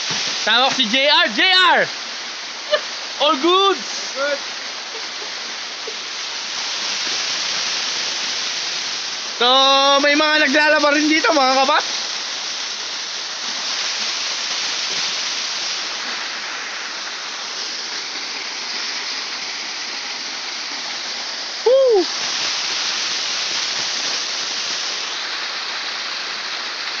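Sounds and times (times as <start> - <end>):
waterfall rushing over rock: 0.0 - 27.0.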